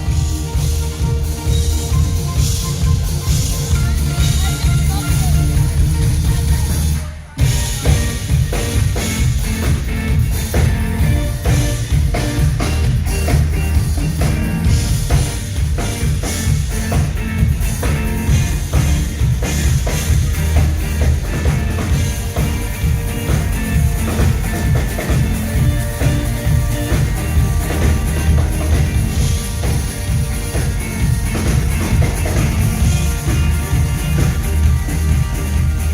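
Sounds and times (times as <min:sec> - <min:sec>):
drum kit beat: 0:00.0 - 0:35.9
heavy bass line: 0:00.0 - 0:35.9
live band playing: 0:00.0 - 0:35.9.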